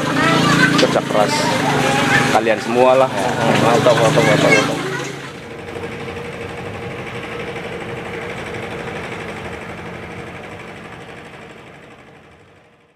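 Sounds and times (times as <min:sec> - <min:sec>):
motorboat engine running: 0:00.0 - 0:12.9.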